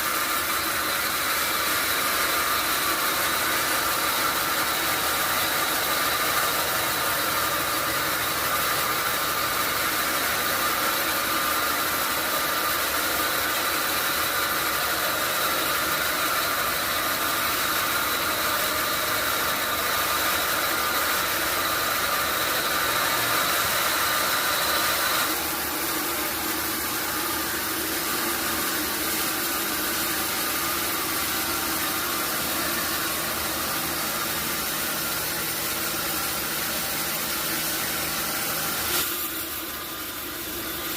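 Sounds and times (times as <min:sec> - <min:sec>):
high mechanical whine: 0:00.0 - 0:40.9
sawmill machinery running: 0:00.0 - 0:40.9.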